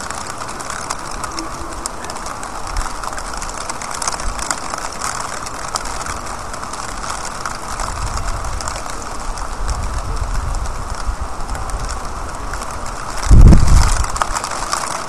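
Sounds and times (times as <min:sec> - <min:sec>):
heavy rain on pavement: 0:00.0 - 0:15.0.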